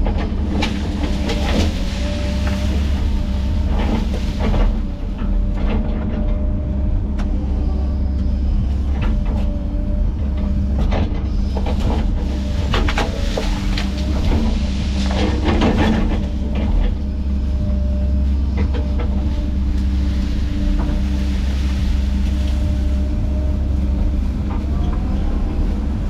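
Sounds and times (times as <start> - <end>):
heavy diesel machine rumbling: 0.0 - 26.0.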